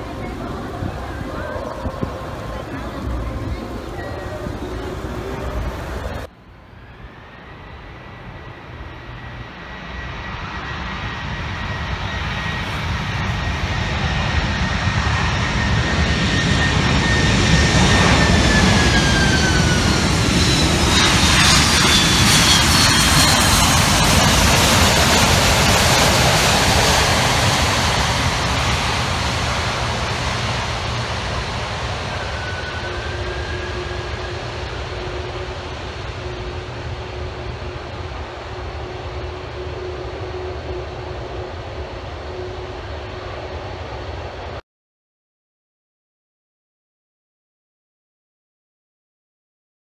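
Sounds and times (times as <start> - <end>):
jet engines roaring: 0.0 - 44.6.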